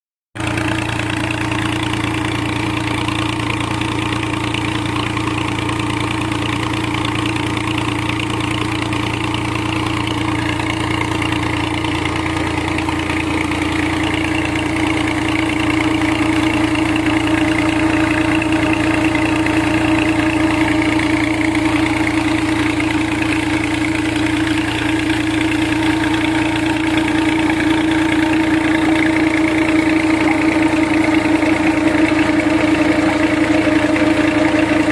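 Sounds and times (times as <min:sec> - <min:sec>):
tractor engine running: 0:00.4 - 0:34.9.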